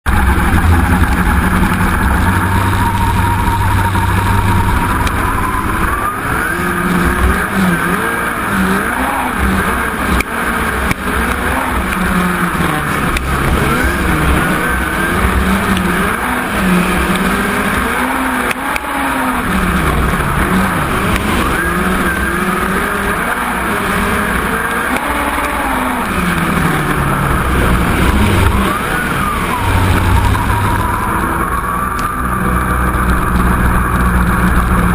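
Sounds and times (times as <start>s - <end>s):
race car engine: 0.0s - 34.9s
tyre and dirt noise: 0.0s - 34.9s.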